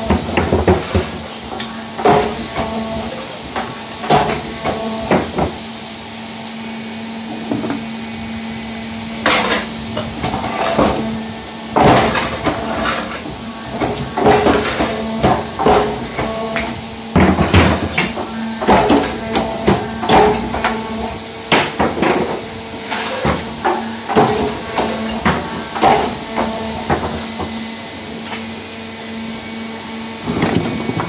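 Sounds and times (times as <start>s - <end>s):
hydraulic press humming: 0.0s - 31.0s.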